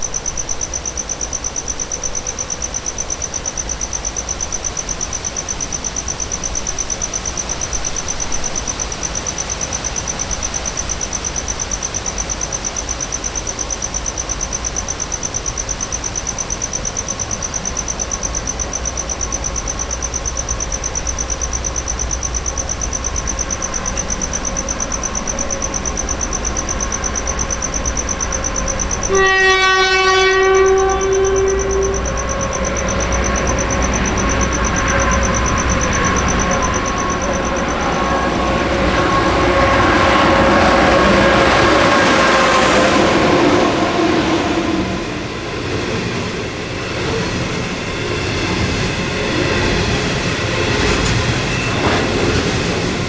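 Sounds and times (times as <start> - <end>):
faint hum: 0.0 - 29.2, 30.1 - 51.6
insects chirring: 0.0 - 53.0
low rumble of electric train: 0.0 - 53.0.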